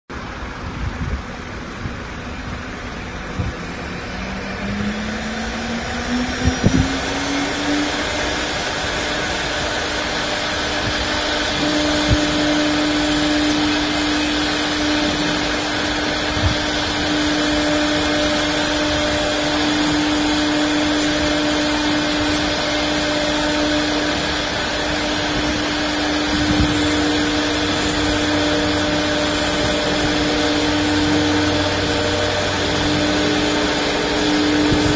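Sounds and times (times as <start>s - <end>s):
constant rushing noise: 0.1s - 34.9s
router spindle whine: 0.1s - 34.9s.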